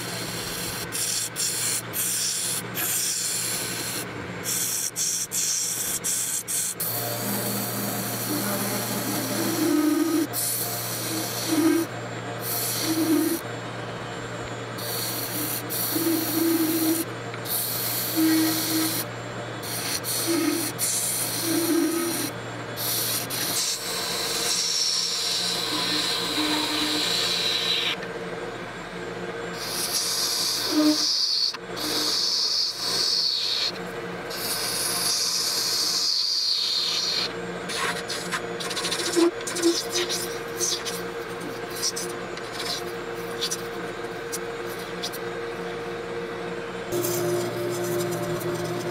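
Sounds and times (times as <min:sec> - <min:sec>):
lathe tool scraping resin: 0:00.0 - 0:13.4, 0:14.8 - 0:28.0, 0:29.6 - 0:45.2, 0:46.9 - 0:48.9
lathe motor hum: 0:00.0 - 0:48.9.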